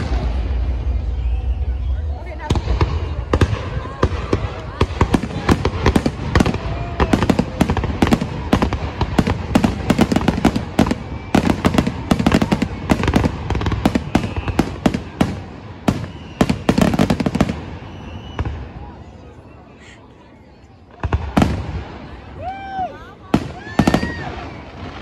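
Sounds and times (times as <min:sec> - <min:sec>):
fireworks bangs and booms: 0:00.0 - 0:19.4, 0:20.8 - 0:25.0.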